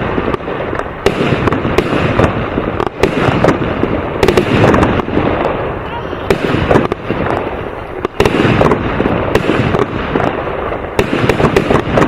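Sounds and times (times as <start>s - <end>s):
firework bangs: 0.0s - 12.0s
firework crackle: 0.0s - 12.0s.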